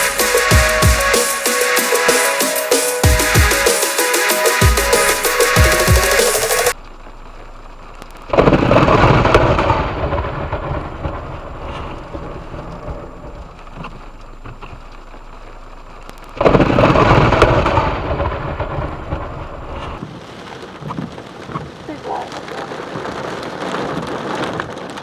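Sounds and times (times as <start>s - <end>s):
steady rain: 3.0s - 25.0s.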